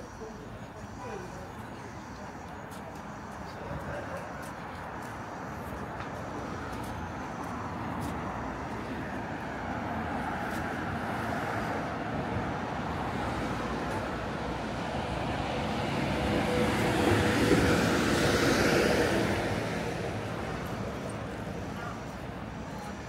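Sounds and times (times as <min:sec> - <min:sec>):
passing cars road noise: 0:00.0 - 0:23.0.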